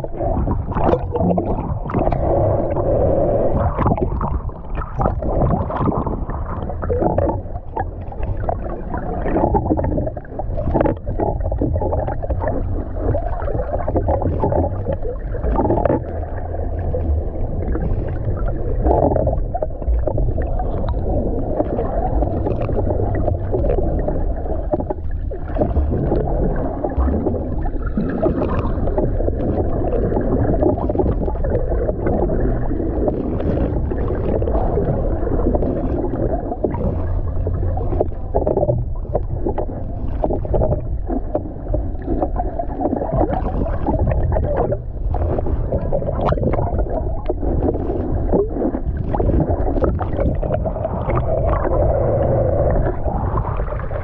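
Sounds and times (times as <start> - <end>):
muffled underwater rumble: 0.0 - 54.0
water sloshing: 0.0 - 54.0.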